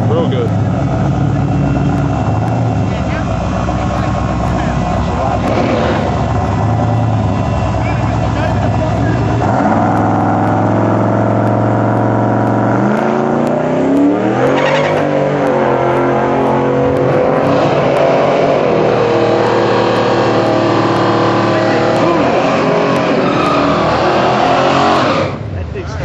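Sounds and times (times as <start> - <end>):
truck engine accelerating: 0.0 - 26.0.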